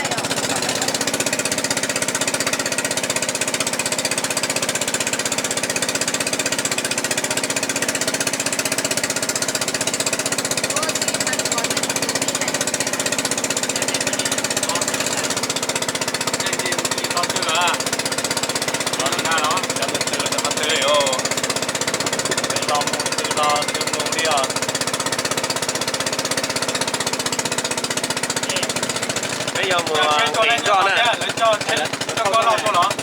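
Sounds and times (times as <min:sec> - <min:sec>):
engine chugging: 0:00.0 - 0:33.0.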